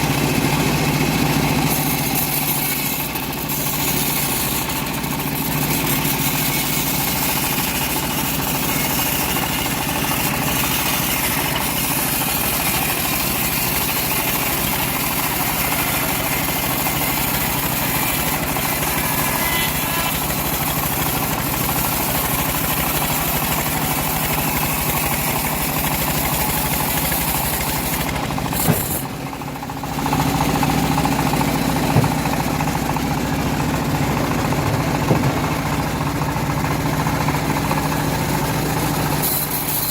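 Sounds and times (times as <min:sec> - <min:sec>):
bandsaw mill engine hum: 0:00.0 - 0:39.9
saw cutting wood hiss: 0:00.1 - 0:39.9.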